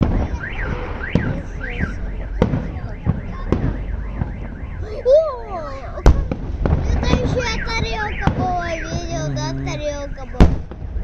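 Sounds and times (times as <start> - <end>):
fireworks banging: 0.0 - 5.1, 5.9 - 11.0
car alarm wailing: 0.0 - 6.4, 7.1 - 10.4.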